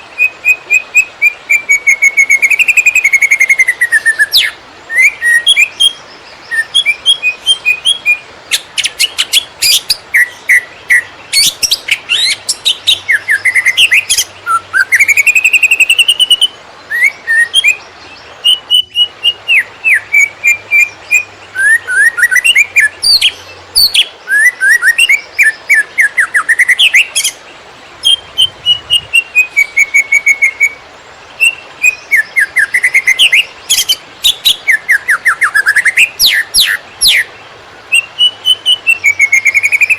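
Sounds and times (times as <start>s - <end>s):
songbird singing loudly: 0.0s - 39.9s.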